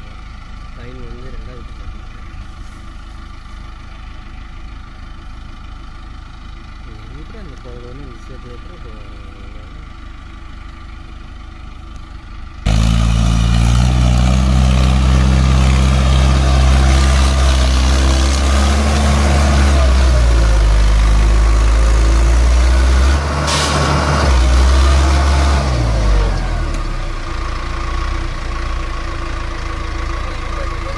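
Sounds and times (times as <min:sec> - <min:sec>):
tractor diesel engine revving: 0:03.2 - 0:30.9.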